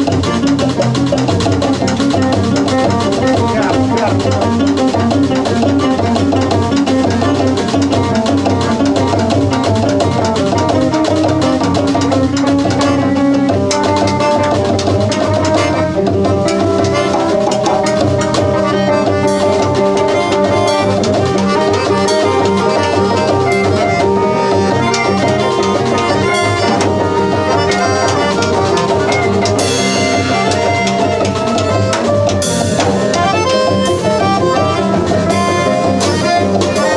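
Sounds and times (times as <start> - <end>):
drum kit and hand percussion: 0.0 - 36.9
small band playing latin groove: 0.0 - 36.9.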